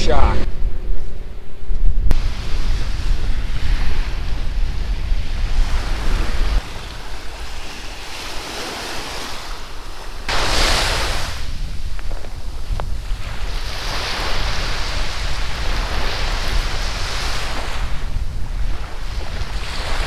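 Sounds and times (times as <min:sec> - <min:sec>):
wind buffeting microphone: 0:00.0 - 0:20.0
waves breaking on beach: 0:02.2 - 0:20.0.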